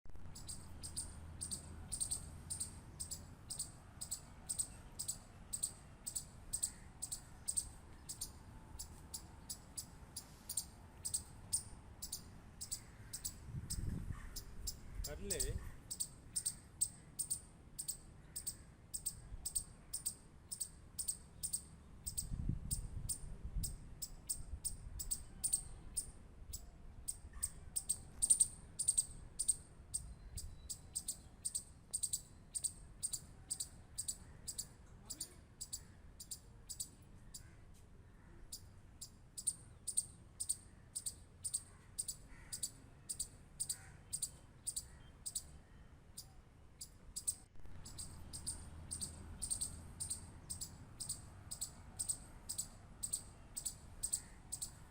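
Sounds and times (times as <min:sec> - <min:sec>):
squirrel clicking chirps: 0:00.3 - 0:09.9, 0:10.5 - 0:37.5, 0:38.5 - 0:45.5, 0:46.2 - 0:54.9.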